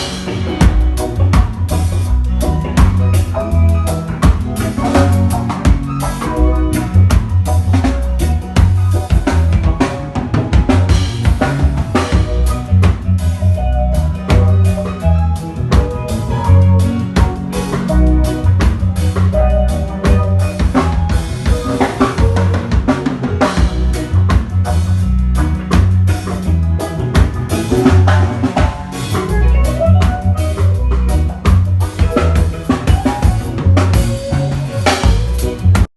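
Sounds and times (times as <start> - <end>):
band playing reggae: 0.0 - 35.9.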